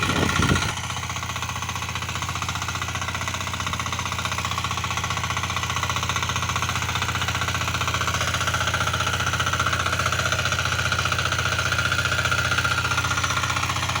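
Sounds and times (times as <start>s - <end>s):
small diesel engine clattering: 0.0s - 14.0s.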